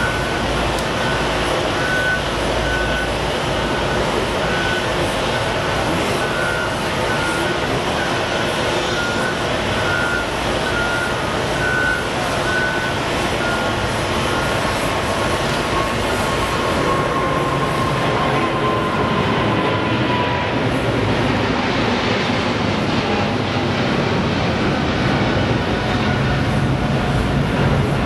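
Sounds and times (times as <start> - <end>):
jet taking off: 0.0 - 28.0.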